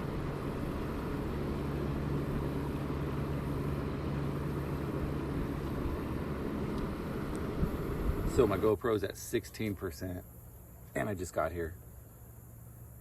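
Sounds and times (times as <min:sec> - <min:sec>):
constant hum: 0:00.0 - 0:13.0
vehicle engine rumble: 0:00.0 - 0:13.0.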